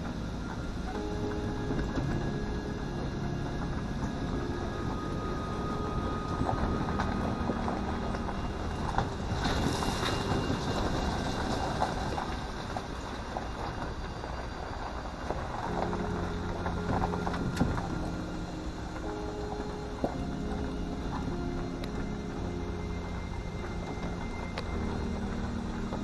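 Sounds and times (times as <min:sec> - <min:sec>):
engine and tyres rumbling: 0:00.0 - 0:26.0.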